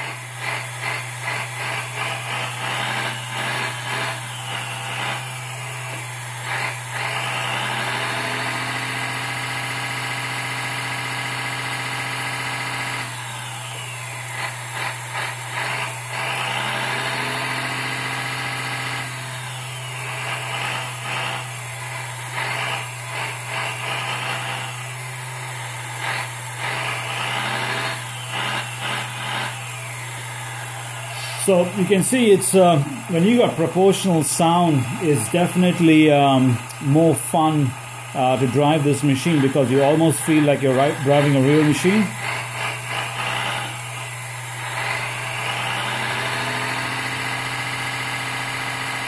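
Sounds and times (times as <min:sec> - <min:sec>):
hydraulic pump: 0:00.0 - 0:49.0
toy excavator engine sound: 0:00.0 - 0:49.0.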